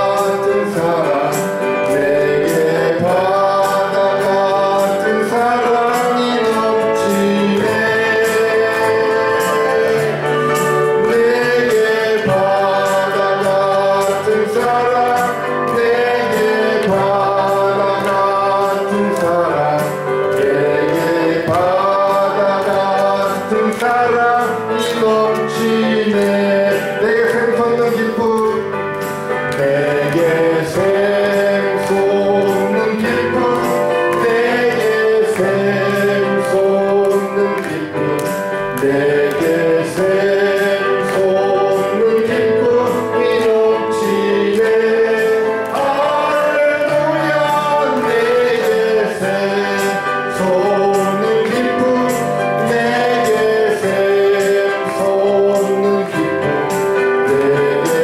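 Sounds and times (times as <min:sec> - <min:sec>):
electronic keyboard accompaniment: 0:00.0 - 0:58.0
gospel singing by men and women: 0:00.0 - 0:58.0.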